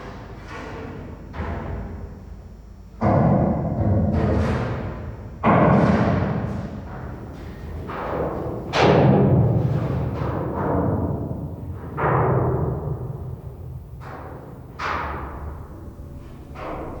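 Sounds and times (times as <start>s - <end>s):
steady low hum: 1.0s - 17.0s.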